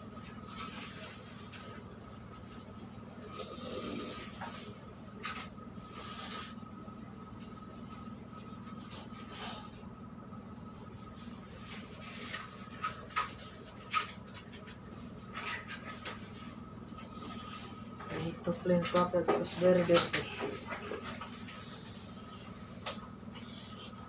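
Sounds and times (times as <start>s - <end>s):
machine hum with faint whine: 0.0s - 24.0s.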